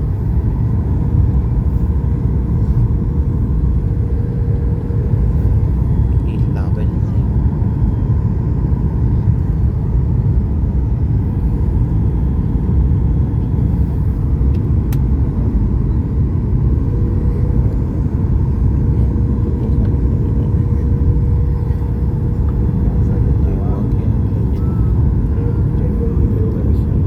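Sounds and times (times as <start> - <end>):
aircraft engines rumbling: 0.0 - 27.0.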